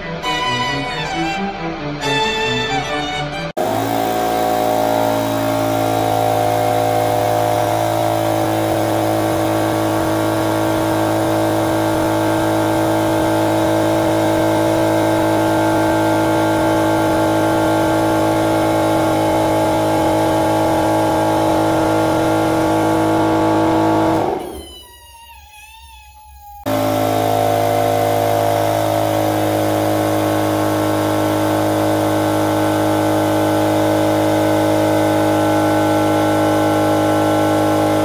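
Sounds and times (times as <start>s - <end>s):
hydraulic pump motor humming: 3.6s - 38.0s.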